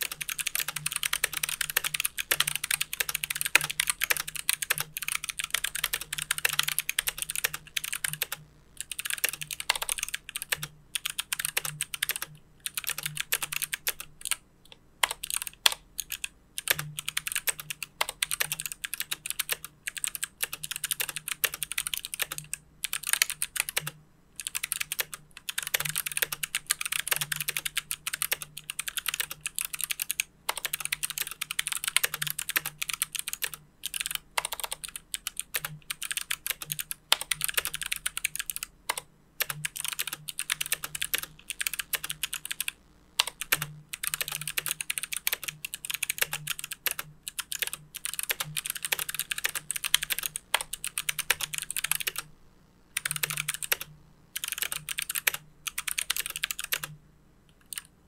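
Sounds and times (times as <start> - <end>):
clicky keyboard typing: 0.0 - 52.3, 53.0 - 57.9.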